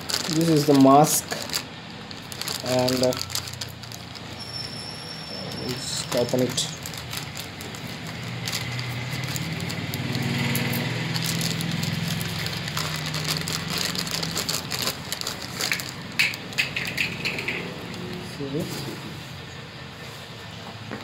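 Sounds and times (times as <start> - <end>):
plastic bag crinkling: 0.0 - 18.4.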